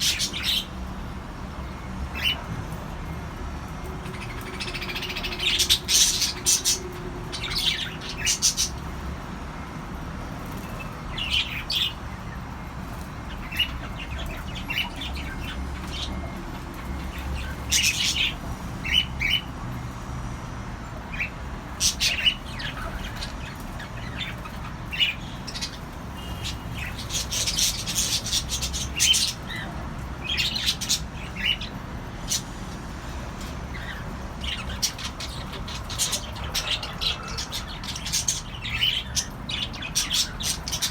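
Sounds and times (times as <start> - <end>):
cockatiels chirping and squawking: 0.0 - 0.8, 4.0 - 9.7, 10.5 - 19.5, 21.1 - 32.5, 33.4 - 40.9.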